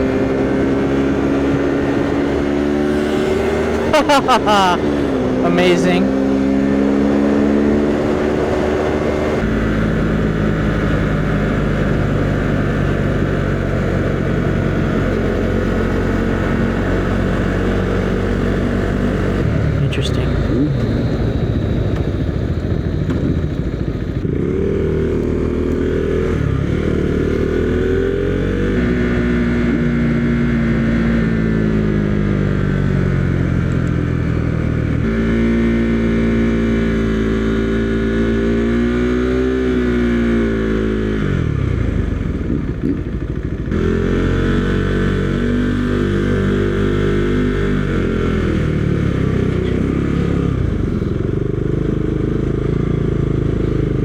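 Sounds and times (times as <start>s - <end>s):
motorcycle engine running: 6.0s - 54.0s.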